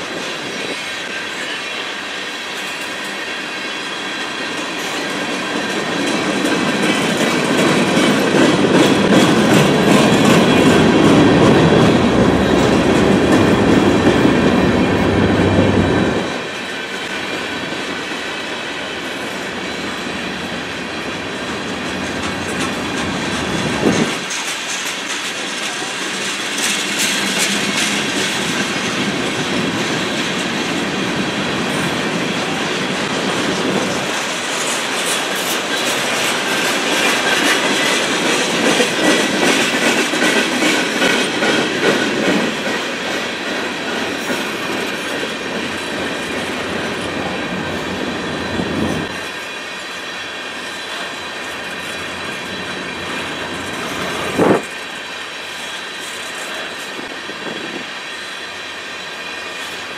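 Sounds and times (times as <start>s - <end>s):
train clacking over rail joints: 0.0s - 59.9s.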